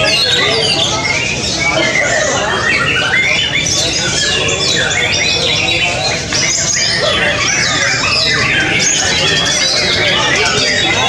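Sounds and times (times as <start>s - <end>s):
birds whistling song: 0.0s - 11.0s.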